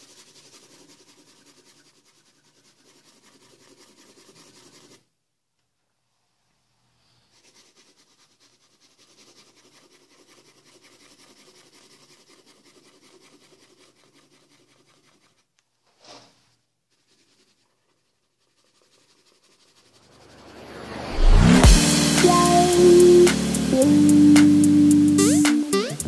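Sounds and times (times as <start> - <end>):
marker scratching on paper: 0.0 - 5.0, 7.3 - 15.5, 16.9 - 25.2.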